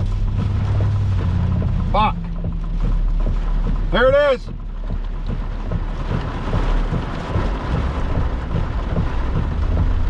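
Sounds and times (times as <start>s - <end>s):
deep low rumble: 0.0s - 10.0s
wind and heavy rain rushing: 0.0s - 10.0s.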